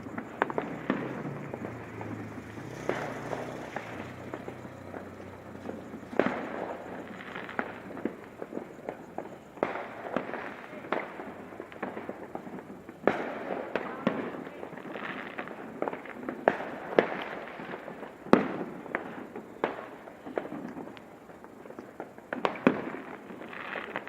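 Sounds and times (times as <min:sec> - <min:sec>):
firecracker crackle: 0:00.0 - 0:24.0
fireworks bangs: 0:00.0 - 0:24.0.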